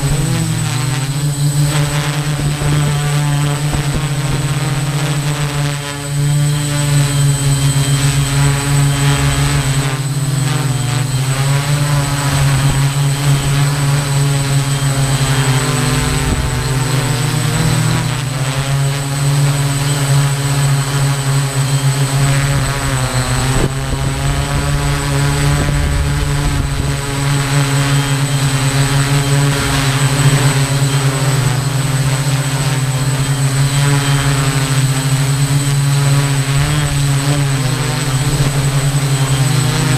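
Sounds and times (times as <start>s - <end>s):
drone propellers buzzing hum: 0.0s - 39.9s
thin high whine: 0.0s - 39.9s.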